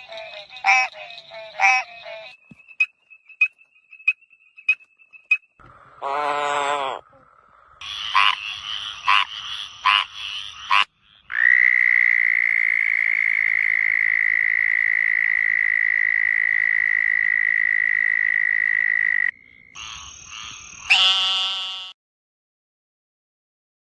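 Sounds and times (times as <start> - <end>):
frogs calling: 0.0 - 21.9.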